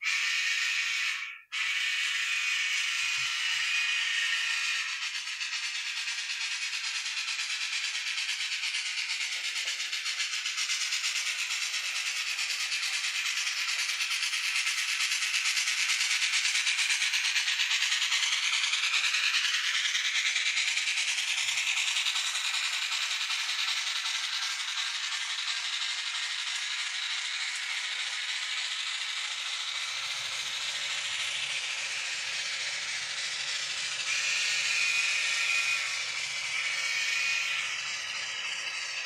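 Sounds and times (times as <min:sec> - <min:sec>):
steam chuffing from small speaker: 0:00.0 - 0:39.0.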